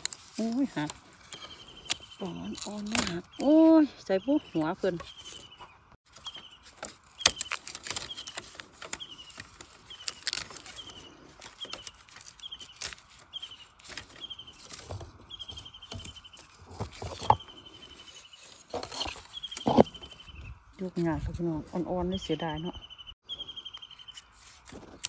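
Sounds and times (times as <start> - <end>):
dry bamboo crackling and snapping: 0.0 - 21.0, 23.8 - 25.0.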